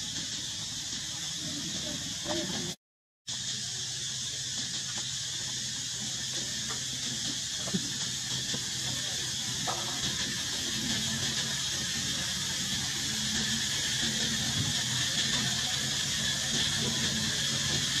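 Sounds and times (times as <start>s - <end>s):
high-pitched hiss: 0.0s - 18.0s.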